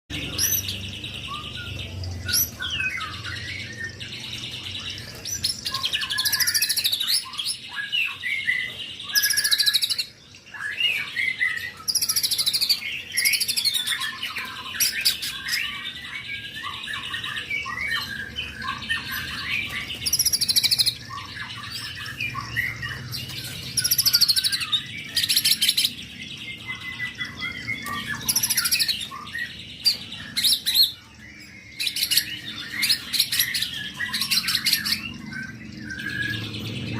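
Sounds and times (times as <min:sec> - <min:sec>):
songbird singing whistles and trills: 0:00.1 - 0:36.9.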